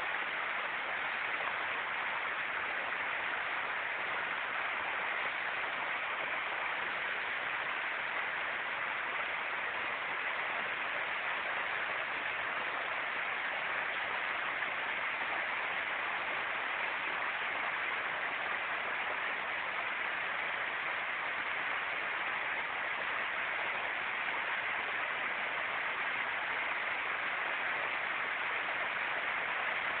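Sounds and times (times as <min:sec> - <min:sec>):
water gushing over a wall: 0:00.0 - 0:30.0.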